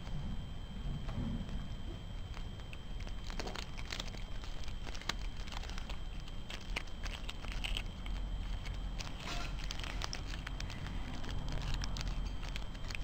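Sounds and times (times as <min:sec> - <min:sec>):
low steady rumble: 0:00.0 - 0:13.0
dog chewing bones: 0:01.0 - 0:13.0.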